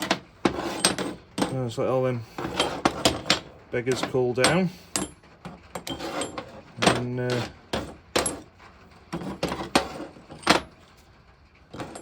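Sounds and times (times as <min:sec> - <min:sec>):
metal tools clanking: 0:00.0 - 0:10.8, 0:11.7 - 0:12.0.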